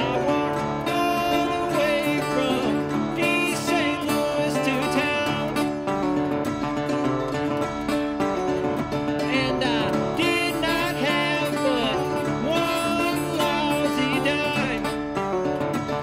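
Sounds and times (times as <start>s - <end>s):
acoustic guitar: 0.0s - 16.0s.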